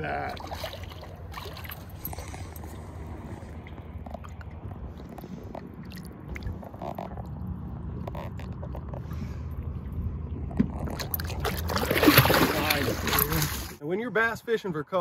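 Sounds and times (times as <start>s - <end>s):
fish splashing in water: 0.0s - 8.9s, 10.4s - 13.8s
steady low rumble: 0.0s - 13.8s.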